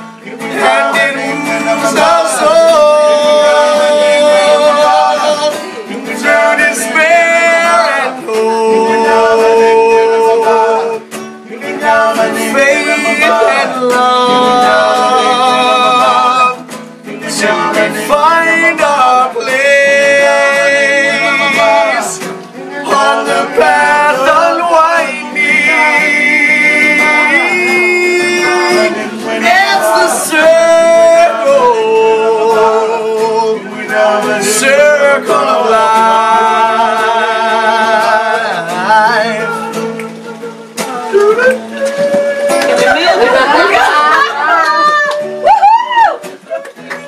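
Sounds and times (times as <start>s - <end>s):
man singing: 0.0s - 44.5s
strummed acoustic guitar: 0.0s - 47.0s.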